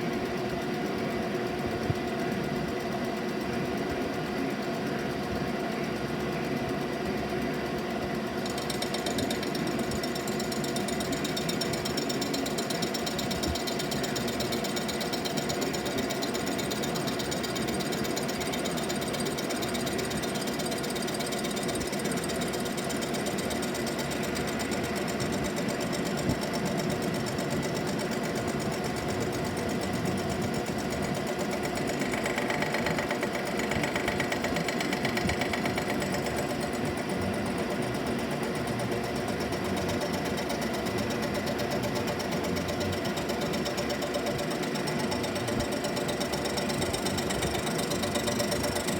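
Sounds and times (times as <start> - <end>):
cutter chattering on metal: 7.8 - 48.9
spindle hum: 8.5 - 48.9.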